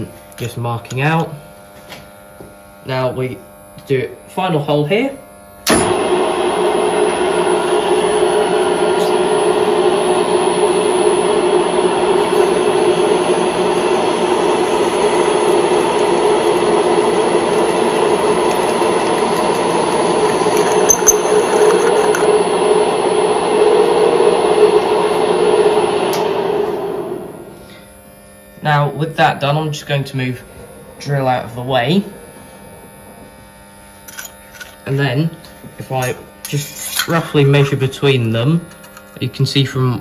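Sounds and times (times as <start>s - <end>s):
high whine: 2.9s - 39.4s
milling machine humming: 5.6s - 39.2s.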